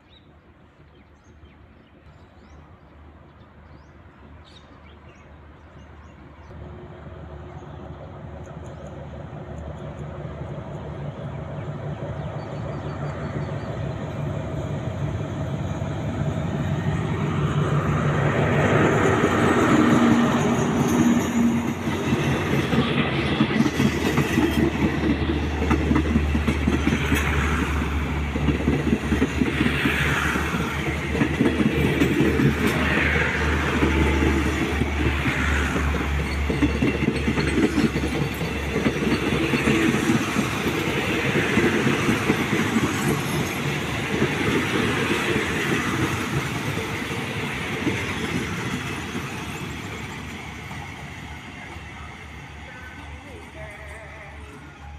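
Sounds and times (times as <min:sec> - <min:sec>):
train wheels clickety-clack: 0:08.3 - 0:11.4, 0:12.0 - 0:54.1.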